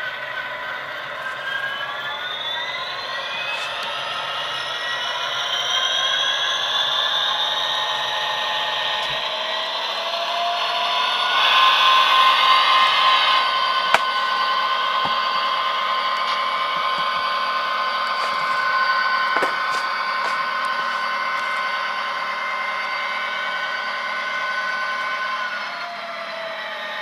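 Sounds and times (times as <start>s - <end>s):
diesel engine sound from small speaker: 0.0s - 27.0s.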